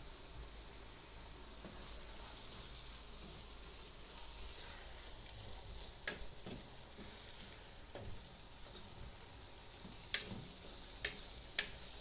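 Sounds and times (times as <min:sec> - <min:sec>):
faint sizzle: 0:00.0 - 0:12.0
wooden spoon stirring sauce: 0:01.5 - 0:12.0.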